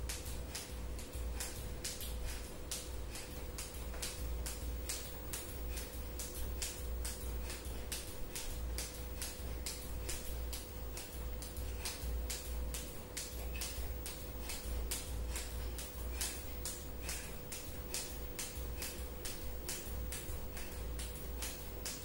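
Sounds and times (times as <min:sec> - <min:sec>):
skipping rope hitting floor: 0:00.0 - 0:22.0.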